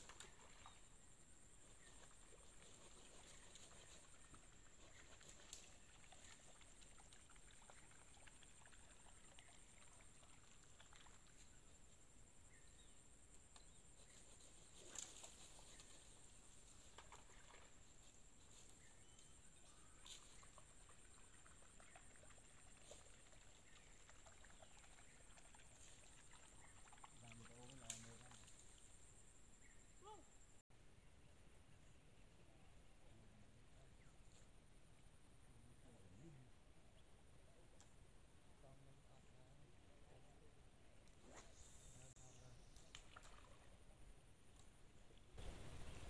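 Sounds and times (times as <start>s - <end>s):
faint background hiss: 0.0s - 46.0s.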